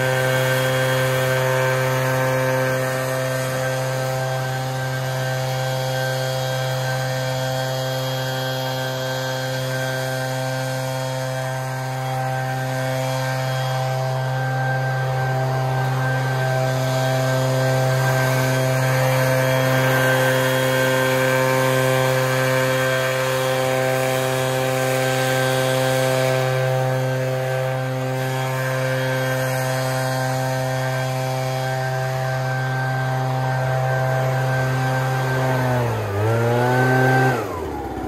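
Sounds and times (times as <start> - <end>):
leaf blower engine drone: 0.0 - 38.0.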